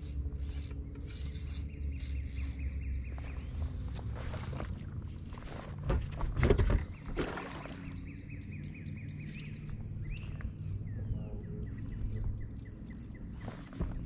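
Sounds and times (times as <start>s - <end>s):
songbirds chirping: 0.0s - 14.0s
steady low hum: 0.0s - 14.0s.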